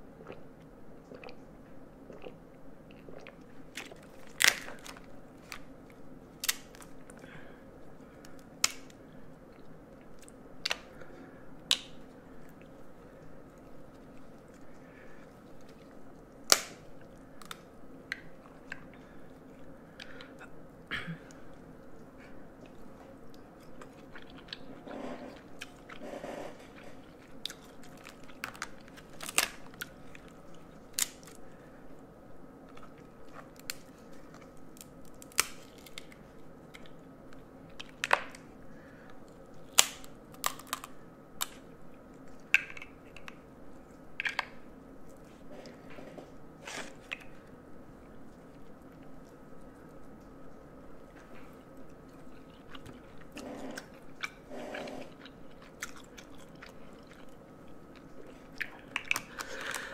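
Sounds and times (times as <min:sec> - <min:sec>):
chewing and mouth sounds: 0:00.0 - 0:31.7, 0:32.6 - 0:59.9.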